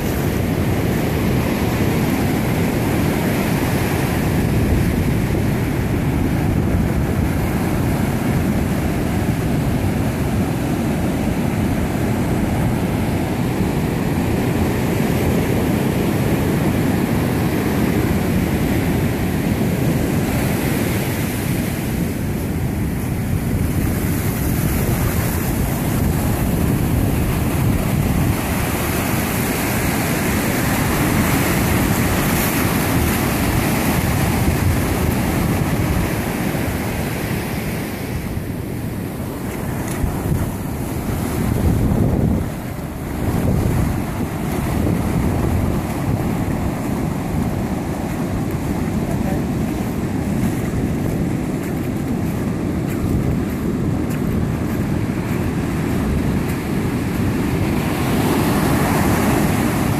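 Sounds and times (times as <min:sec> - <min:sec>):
ocean waves on beach: 0:00.0 - 0:59.9
wind buffeting microphone: 0:00.0 - 0:59.9.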